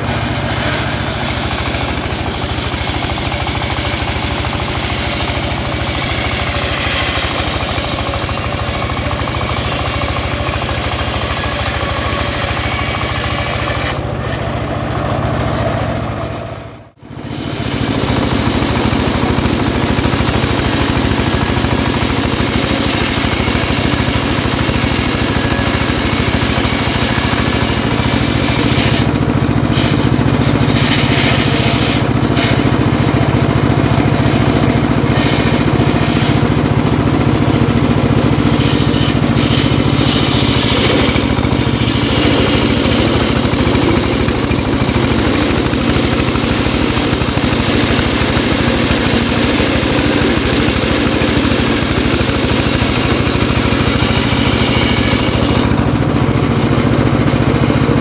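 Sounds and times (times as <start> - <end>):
circular saw ripping wood: 0.0 - 16.4, 17.0 - 58.0.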